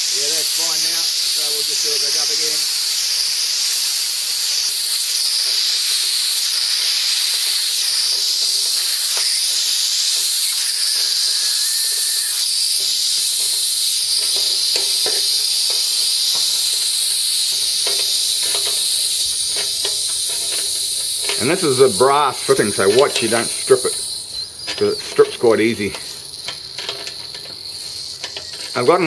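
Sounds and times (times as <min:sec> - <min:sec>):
compressed air hissing from valve: 0:00.0 - 0:29.0
valve clicks: 0:00.4 - 0:29.0.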